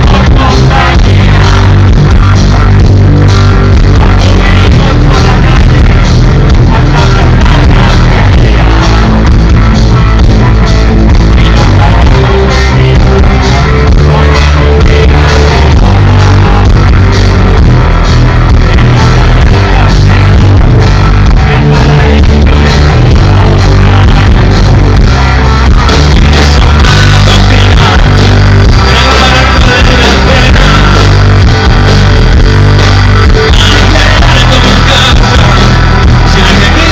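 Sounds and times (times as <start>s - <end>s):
rock band playing live: 0.0s - 36.9s.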